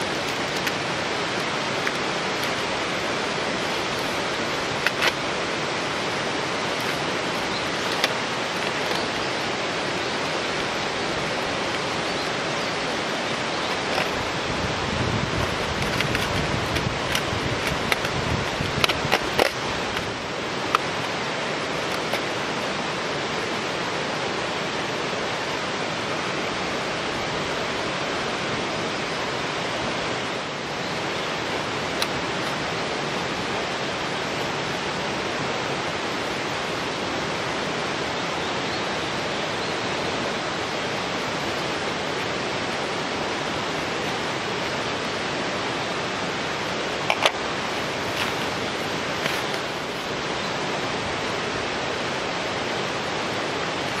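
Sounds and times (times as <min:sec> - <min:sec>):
water flowing: 0:00.0 - 0:54.0.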